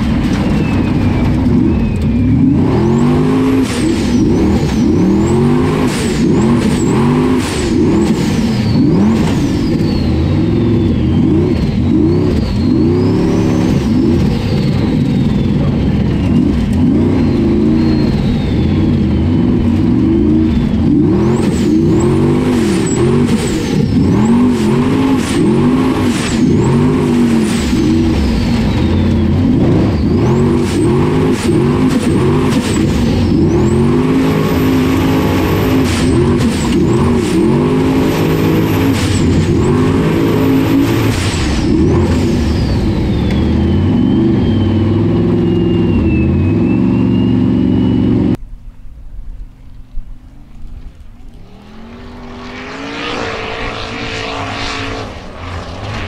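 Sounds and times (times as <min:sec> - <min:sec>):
buggy engine revving: 0:00.0 - 0:48.4, 0:50.5 - 0:56.0
high engine whine: 0:00.0 - 0:56.0.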